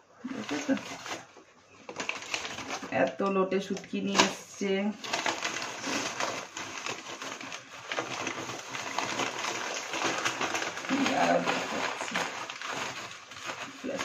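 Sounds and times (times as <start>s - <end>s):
plastic bag rustling and crinkling: 0.1s - 14.0s.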